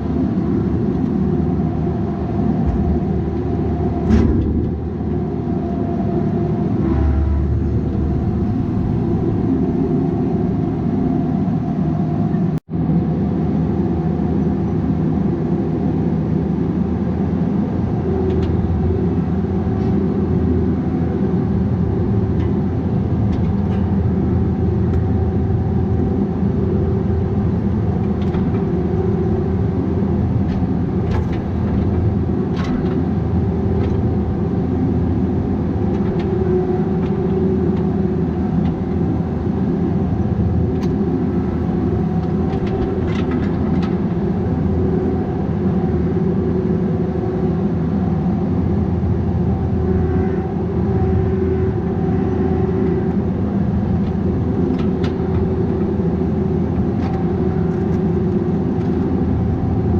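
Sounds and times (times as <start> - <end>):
excavator diesel engine running: 0.0 - 12.6, 14.6 - 59.9.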